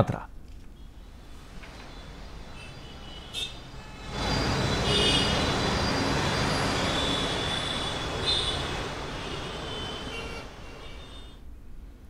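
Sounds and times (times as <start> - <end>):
high thin squeals: 0.7 - 11.4
vehicle rumbling: 0.7 - 11.4.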